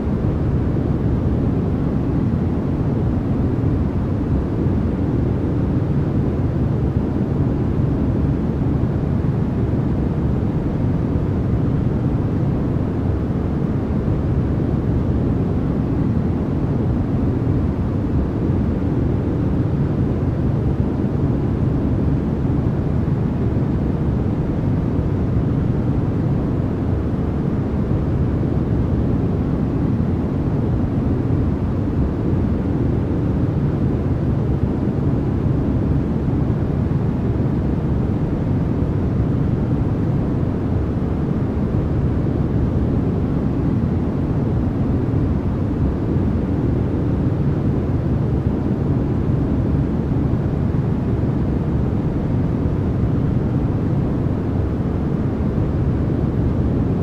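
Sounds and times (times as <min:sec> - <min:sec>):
low muffled white noise: 0:00.0 - 0:57.0.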